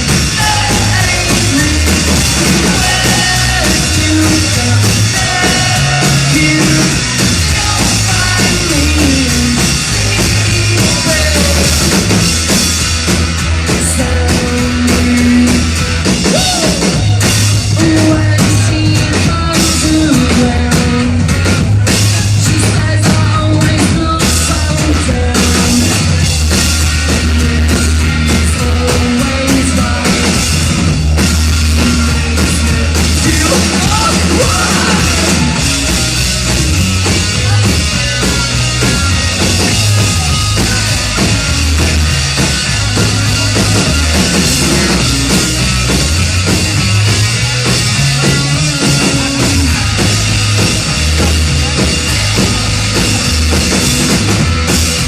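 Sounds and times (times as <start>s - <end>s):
driving drum kit: 0.0s - 55.0s
rock band playing live: 0.0s - 55.0s.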